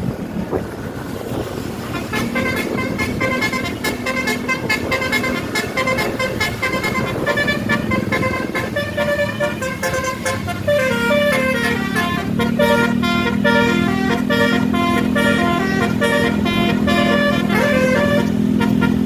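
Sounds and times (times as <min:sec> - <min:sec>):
bus horn playing melody: 0:01.8 - 0:19.0
low steady horn tone: 0:01.9 - 0:19.0.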